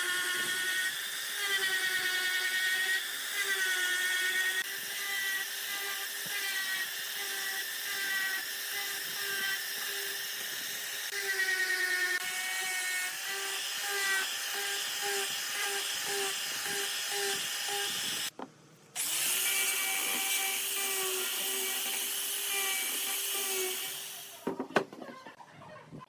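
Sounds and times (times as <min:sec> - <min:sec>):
power tool motor whine: 0:00.0 - 0:18.3, 0:19.0 - 0:24.5.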